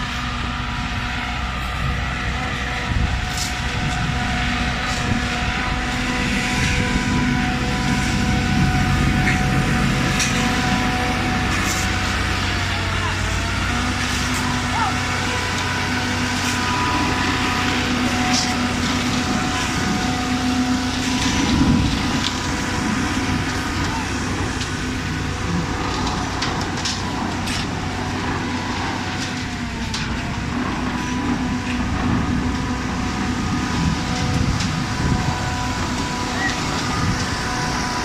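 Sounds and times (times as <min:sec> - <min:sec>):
concrete pump engine running: 0:00.0 - 0:38.0.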